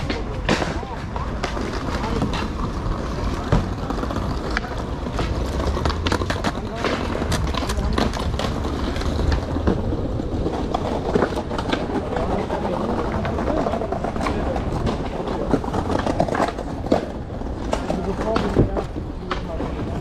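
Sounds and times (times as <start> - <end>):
skateboard clacking: 0.0 - 20.0
skateboard wheels rolling on paving: 0.0 - 20.0.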